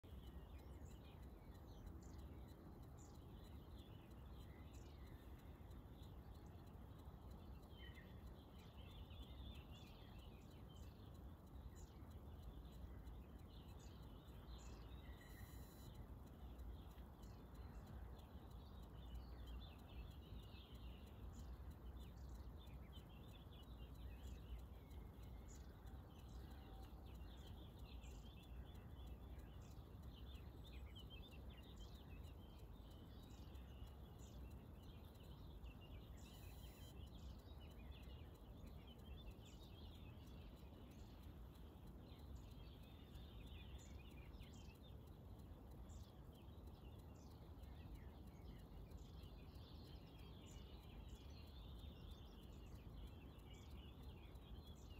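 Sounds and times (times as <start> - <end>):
distant songbirds chirping: 0.0 - 54.9
low steady rumble: 0.0 - 54.9.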